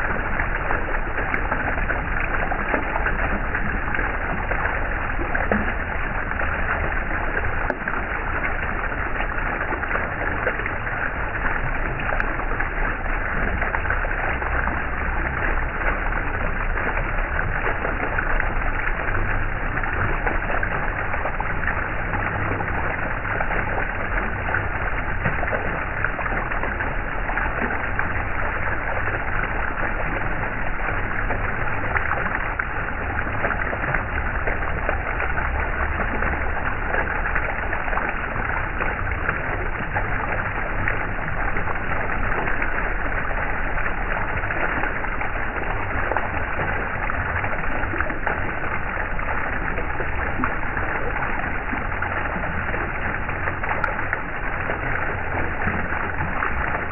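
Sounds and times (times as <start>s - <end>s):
water flowing: 0.0s - 56.9s.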